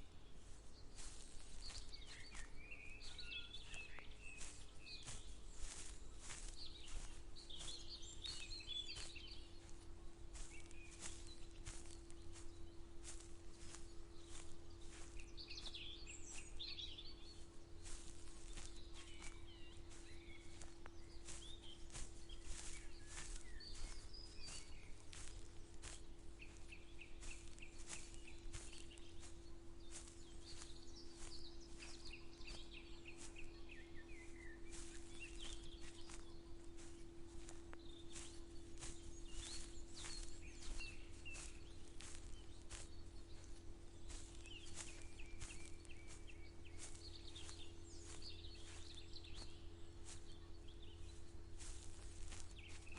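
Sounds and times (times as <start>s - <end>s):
footsteps walking: 0.0s - 52.9s
songbirds chirping: 0.0s - 52.9s.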